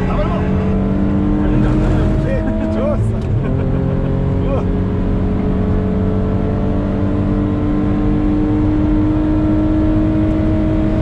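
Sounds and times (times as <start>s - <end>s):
car engine accelerating: 0.0s - 11.0s
road and wind noise: 0.0s - 11.0s.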